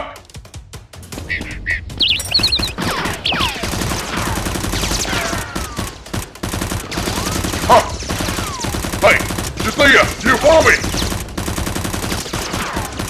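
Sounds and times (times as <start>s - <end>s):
automatic gunfire bursts: 0.5s - 13.0s.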